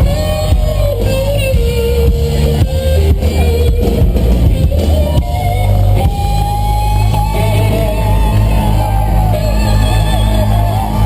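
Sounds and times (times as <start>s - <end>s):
heavy steady bass: 0.0s - 11.0s
held wavering melody line: 0.0s - 11.0s
live country-rock band: 0.0s - 11.0s.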